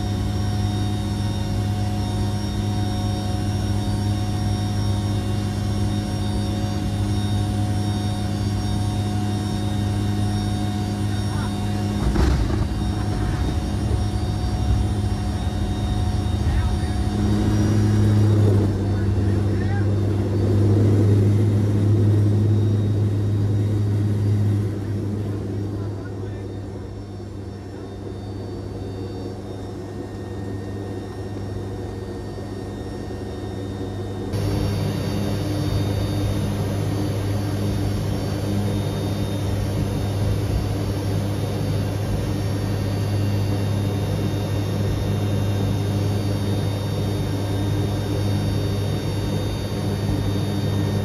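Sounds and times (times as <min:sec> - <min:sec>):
turboprop engines droning: 0:00.0 - 0:51.0.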